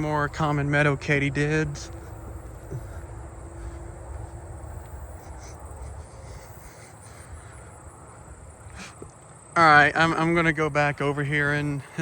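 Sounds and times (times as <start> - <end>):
katydids buzzing: 0.0 - 11.2
low background rumble: 0.0 - 12.0.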